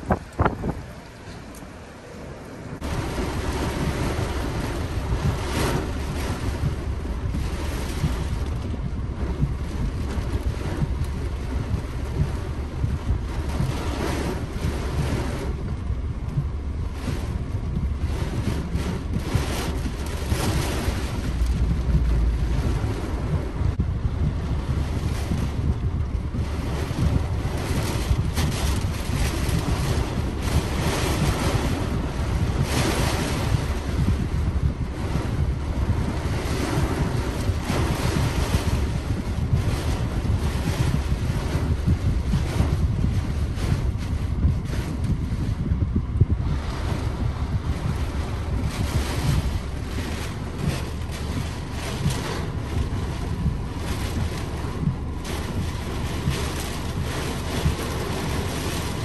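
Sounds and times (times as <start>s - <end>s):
gusting wind: 0.0s - 59.0s
heavy low rumble: 0.0s - 59.0s
heavy rain on car roof: 0.0s - 59.0s.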